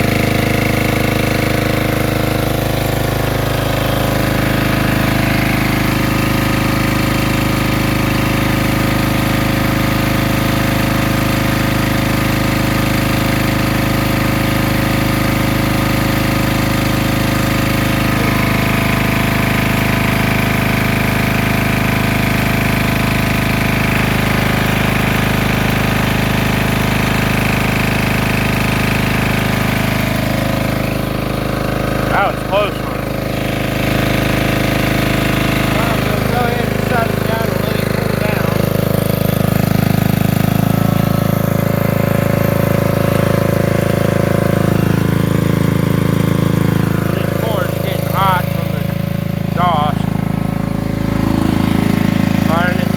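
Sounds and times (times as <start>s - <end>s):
generator engine running: 0.0s - 52.9s.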